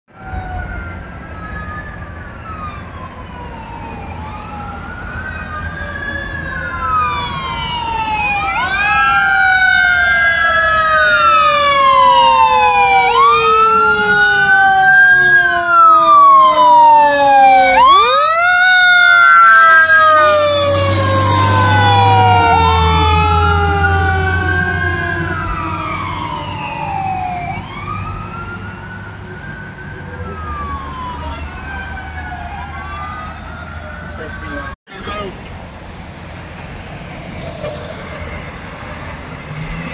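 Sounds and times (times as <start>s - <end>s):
fire engine wail sirens: 0.1s - 39.9s
truck engine rumble: 0.6s - 39.9s.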